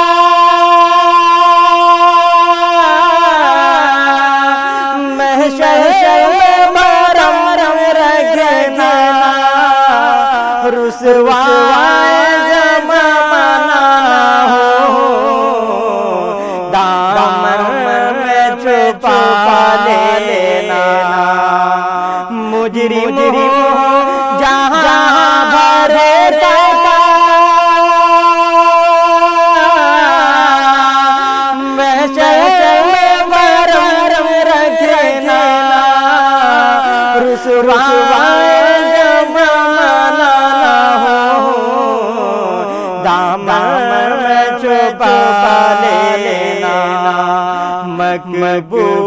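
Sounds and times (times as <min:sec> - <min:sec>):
man singing ornamented notes: 0:00.0 - 0:49.0.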